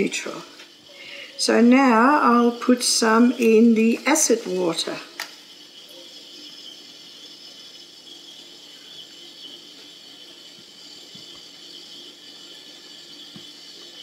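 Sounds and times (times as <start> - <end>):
high-pitched drone: 0.0 - 14.0.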